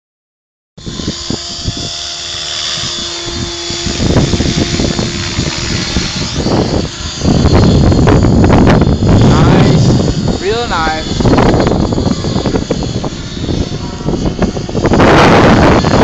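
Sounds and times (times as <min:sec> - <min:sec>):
model helicopter motor whine: 0:00.8 - 0:16.0
wind on microphone: 0:00.8 - 0:16.0.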